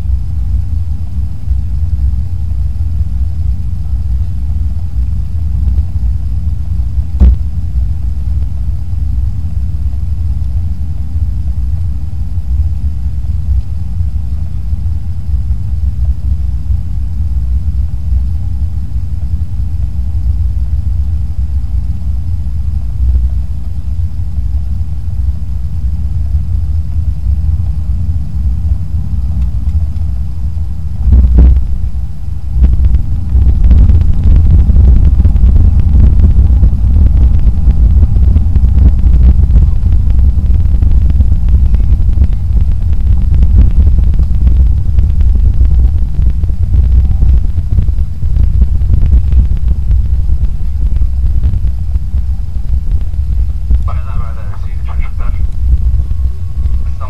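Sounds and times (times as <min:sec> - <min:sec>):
airplane cabin engine rumble: 0:00.0 - 0:57.0
faint high whine: 0:00.0 - 0:57.0.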